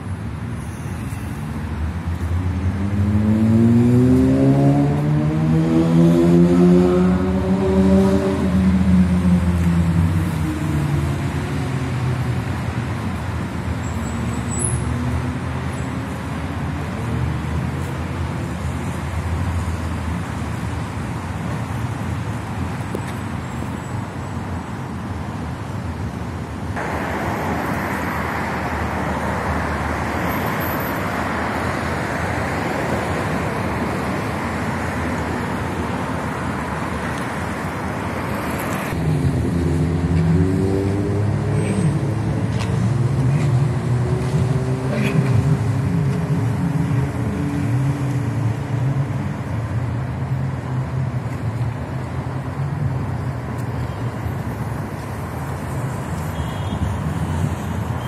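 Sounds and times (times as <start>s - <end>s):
cars rushing by: 0.0s - 58.0s
heavy vehicle engines passing: 0.0s - 58.0s.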